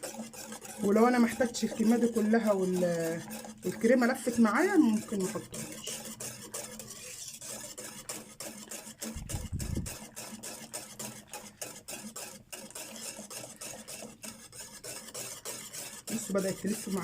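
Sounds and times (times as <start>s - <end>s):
wire whisk stirring in metal pot: 0.0s - 17.0s.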